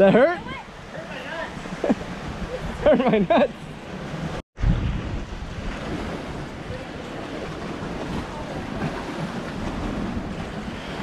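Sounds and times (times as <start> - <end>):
ocean surf against rocks: 0.0 - 11.0
wind noise on microphone: 1.6 - 11.0.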